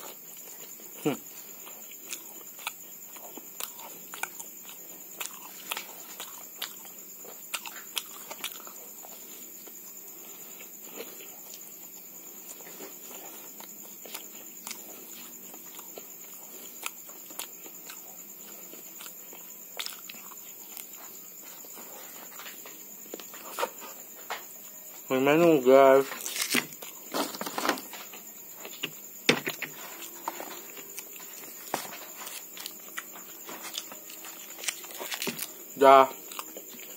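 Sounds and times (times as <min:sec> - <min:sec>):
man chewing with lip smacks: 0:00.0 - 0:24.7, 0:27.9 - 0:36.9.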